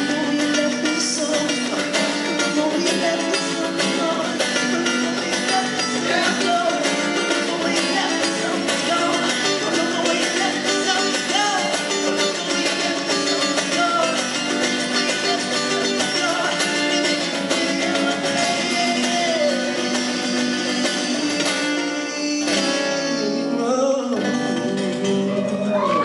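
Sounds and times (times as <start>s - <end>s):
acoustic guitars strummed: 0.0s - 26.0s
man singing: 0.0s - 26.0s.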